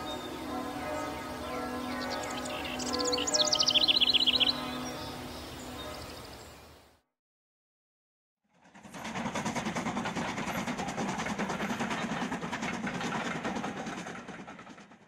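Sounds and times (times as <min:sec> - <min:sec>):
steam train running: 0:00.0 - 0:06.1, 0:08.5 - 0:15.0.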